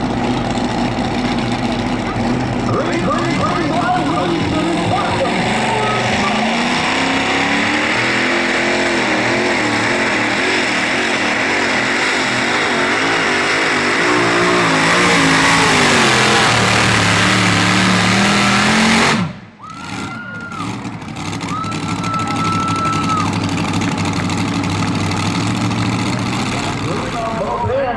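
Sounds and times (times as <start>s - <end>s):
tractor engine at full throttle: 0.0s - 27.9s.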